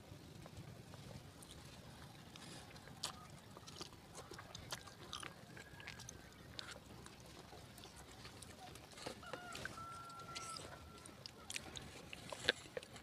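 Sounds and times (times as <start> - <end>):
chewing with wet clicks: 0.4 - 13.0.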